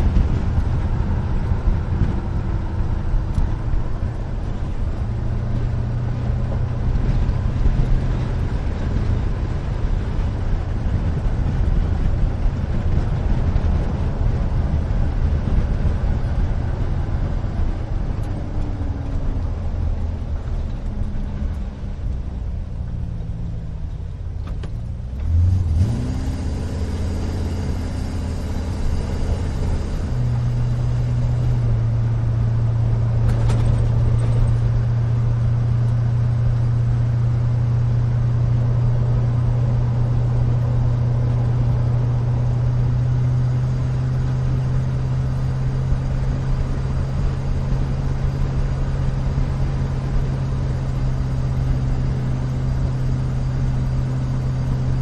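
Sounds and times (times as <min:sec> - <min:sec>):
pickup engine and road noise: 0:00.0 - 0:55.0.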